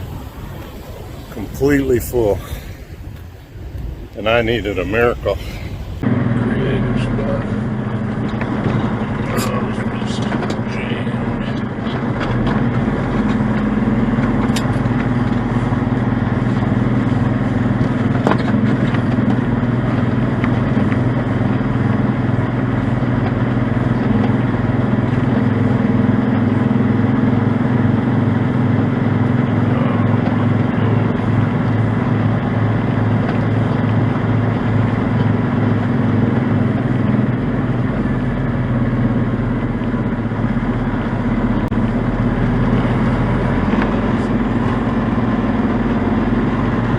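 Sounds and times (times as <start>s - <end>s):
large engine idling: 0.0s - 46.9s.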